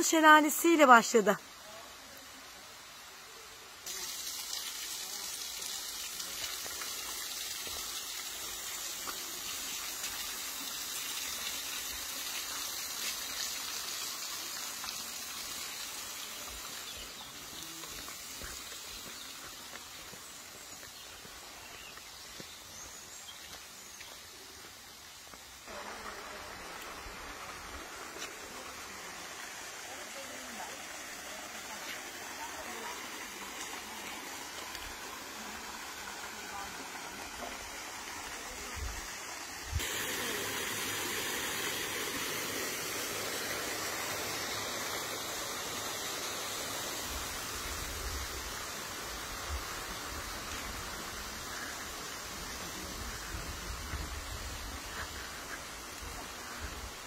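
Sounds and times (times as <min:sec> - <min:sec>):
waterfall rushing and splashing: 0:00.0 - 0:57.0.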